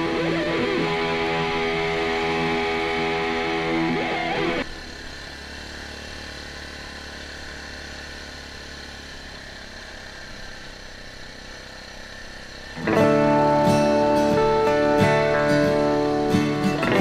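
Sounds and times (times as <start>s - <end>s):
atv engine running steadily: 0.0s - 17.0s.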